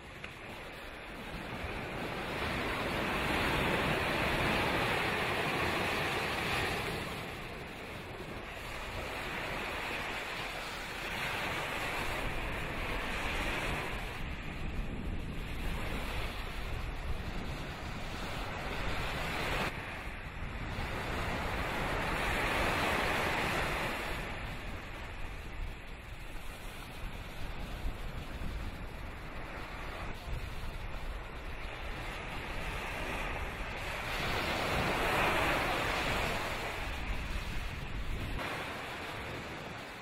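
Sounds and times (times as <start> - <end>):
rushing wind: 0.0 - 40.0
sea noise: 0.0 - 40.0
wind buffeting microphone: 0.0 - 40.0.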